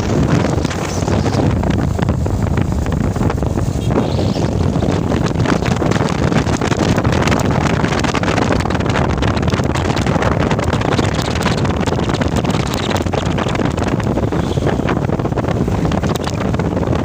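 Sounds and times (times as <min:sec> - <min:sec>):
truck engine and road noise: 0:00.0 - 0:17.0
wind buffeting microphone: 0:00.0 - 0:17.0.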